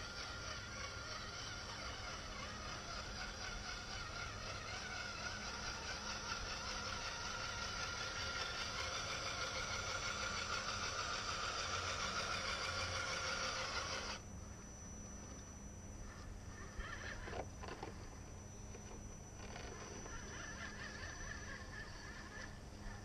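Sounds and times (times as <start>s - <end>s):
toy truck motor and gear whine: 0.0s - 23.0s.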